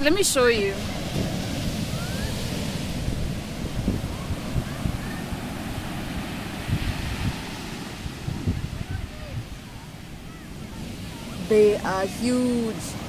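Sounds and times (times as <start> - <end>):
ocean surf breaking on beach: 0.0 - 13.0
wind buffeting microphone: 0.0 - 13.0.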